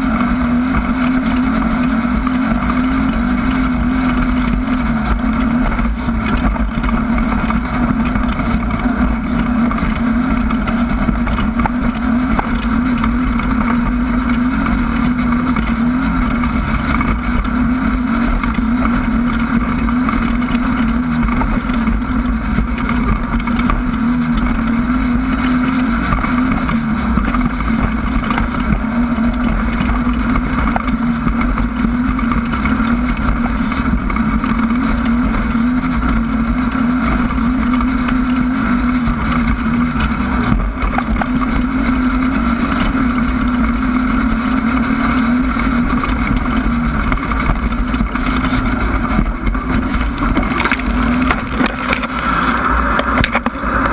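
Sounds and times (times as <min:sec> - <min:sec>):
race car engine droning: 0:00.0 - 0:53.9.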